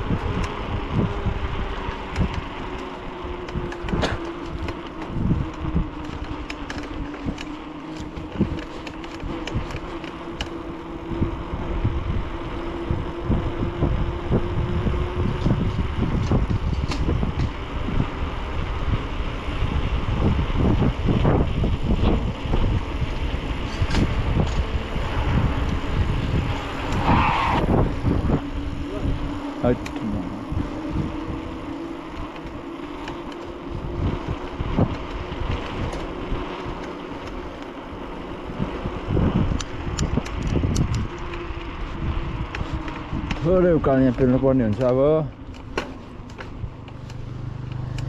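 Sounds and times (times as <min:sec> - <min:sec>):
bicycle clicks: 0:00.0 - 0:48.0
road rumble: 0:00.0 - 0:48.0
wind buffeting microphone: 0:00.0 - 0:48.0.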